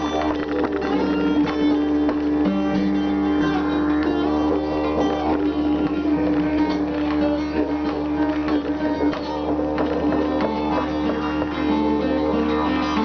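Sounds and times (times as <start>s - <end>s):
acoustic guitar plucked and strummed: 0.0s - 13.0s
steady low held note: 0.0s - 13.0s.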